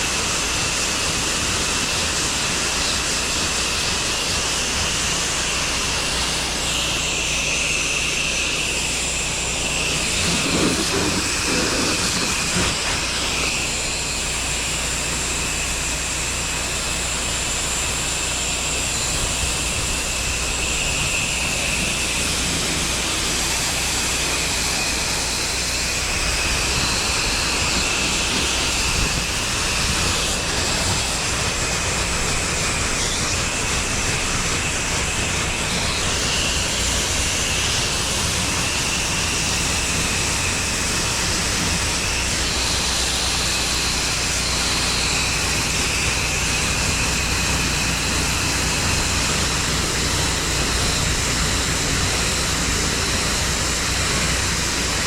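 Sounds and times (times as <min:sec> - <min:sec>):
high whine: 0:00.0 - 0:55.0
pressure washer spray hissing: 0:00.0 - 0:55.0.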